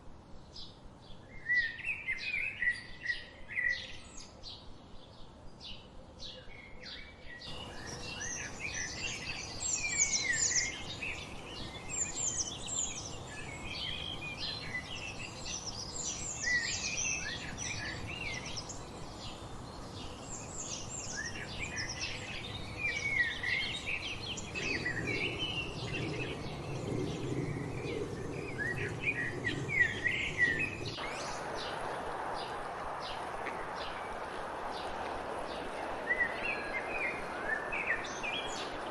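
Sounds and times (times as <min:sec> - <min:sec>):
songbirds singing and chirping: 0:00.0 - 0:38.9
steady background hiss: 0:00.0 - 0:38.9.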